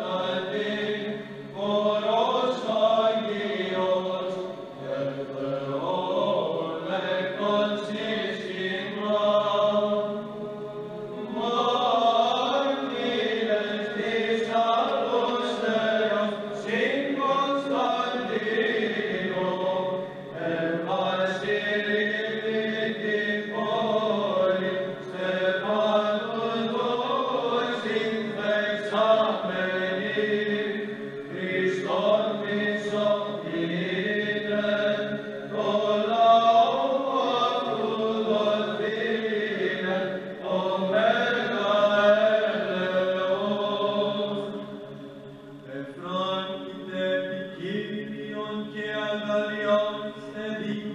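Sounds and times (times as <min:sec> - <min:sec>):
male choir chanting unaccompanied: 0:00.0 - 0:50.9.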